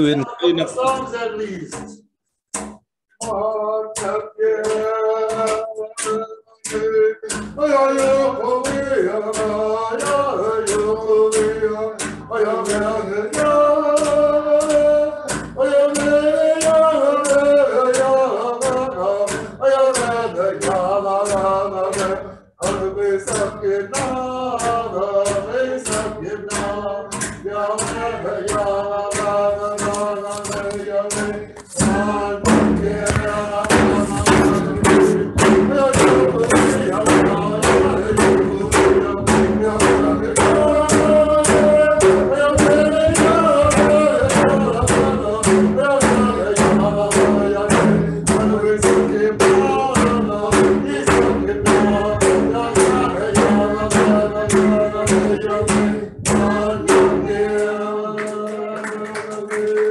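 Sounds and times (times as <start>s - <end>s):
sharp drum beats: 0.0s - 59.3s
voices singing together: 3.2s - 59.9s.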